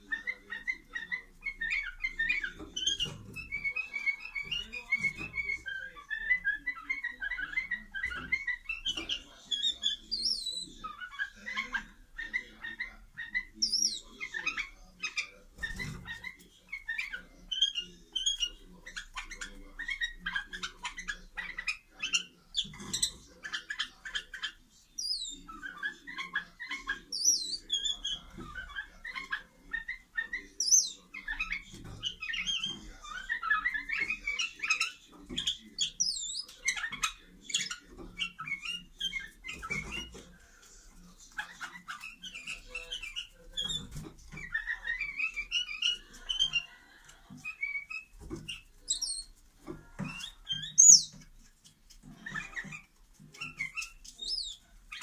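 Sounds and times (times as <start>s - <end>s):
birds chirping and whistling: 0.0s - 55.0s.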